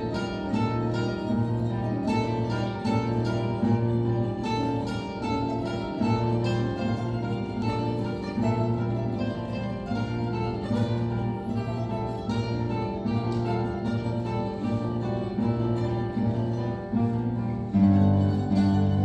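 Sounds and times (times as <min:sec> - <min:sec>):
classical guitar quartet playing: 0:00.0 - 0:19.0.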